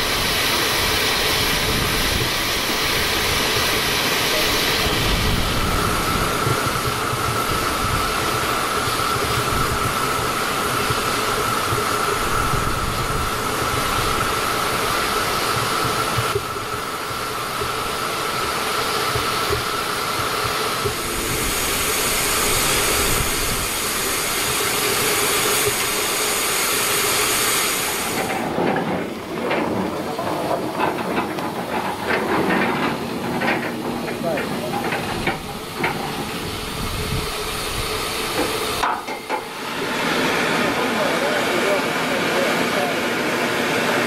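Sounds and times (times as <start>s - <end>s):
steam locomotive hissing: 0.0s - 44.0s.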